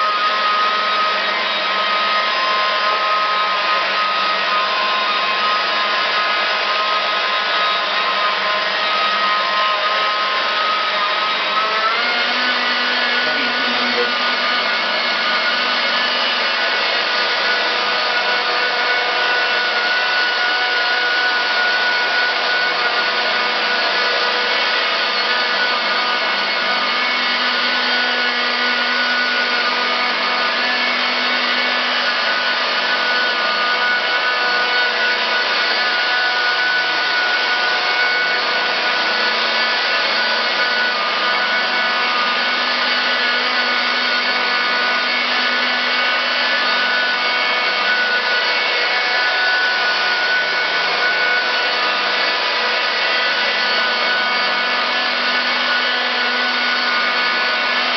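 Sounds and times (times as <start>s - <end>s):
rotary polisher whirring: 0.0s - 57.9s.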